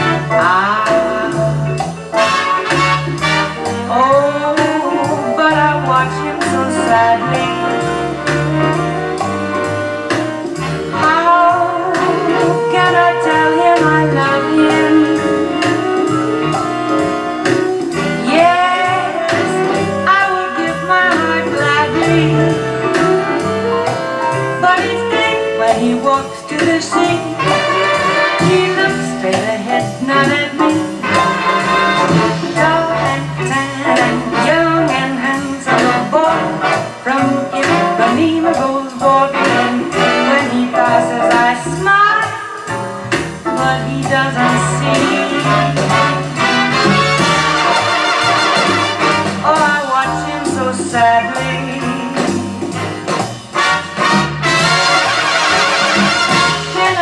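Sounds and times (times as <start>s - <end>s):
jazz backing band: 0.0s - 57.0s
woman singing jazz: 0.0s - 57.0s.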